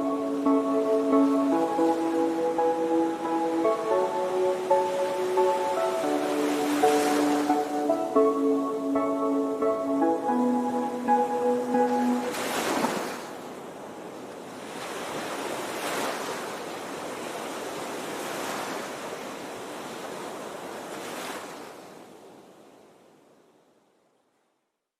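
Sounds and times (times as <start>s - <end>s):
waves breaking and washing in: 0.0s - 24.3s.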